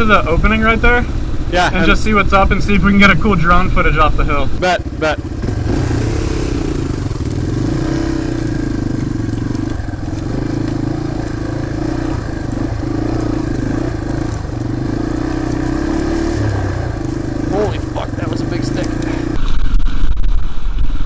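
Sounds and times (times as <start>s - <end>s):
dirt bike engine running: 0.0s - 19.4s.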